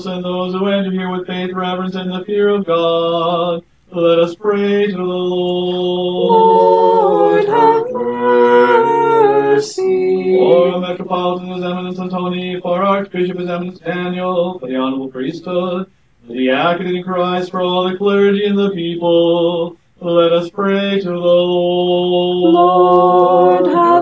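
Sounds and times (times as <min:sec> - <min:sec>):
unaccompanied liturgical chant: 0:00.0 - 0:24.0.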